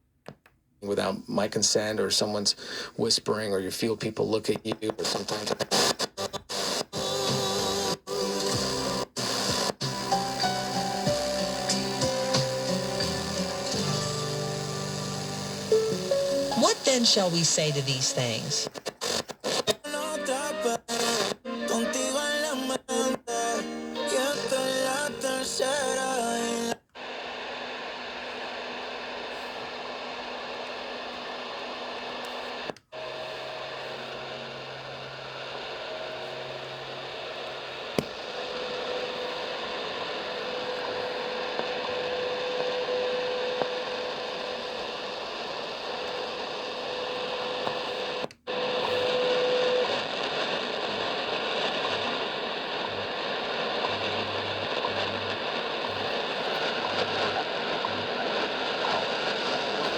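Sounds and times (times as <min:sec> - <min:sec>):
radio static hiss: 0:00.8 - 0:59.9.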